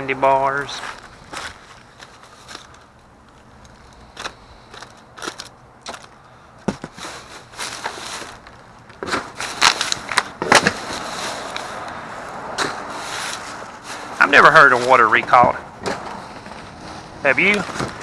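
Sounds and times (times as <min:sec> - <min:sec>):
plastic wrappers crinkling: 0:00.6 - 0:06.2, 0:06.8 - 0:18.0.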